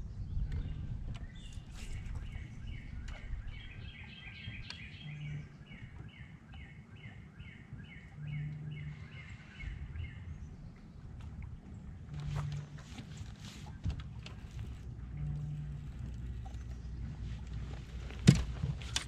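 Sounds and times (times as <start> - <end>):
songbird singing: 0.0 - 18.2
low hum: 0.0 - 19.0
wind and water rumble: 0.0 - 19.0.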